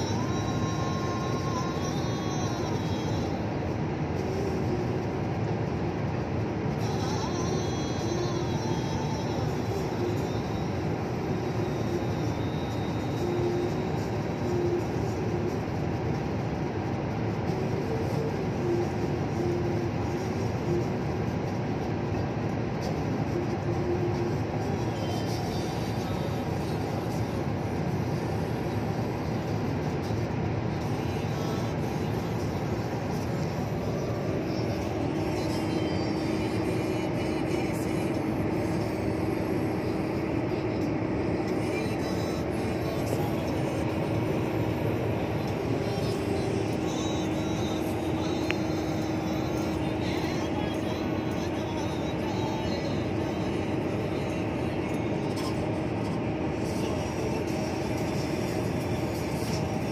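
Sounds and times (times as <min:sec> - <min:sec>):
vehicle road and engine noise: 0:00.0 - 0:59.9.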